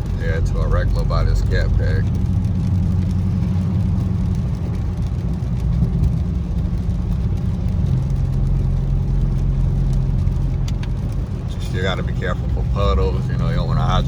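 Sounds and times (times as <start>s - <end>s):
car engine cruising at low revs: 0.0s - 14.0s
road noise hiss: 0.0s - 14.0s.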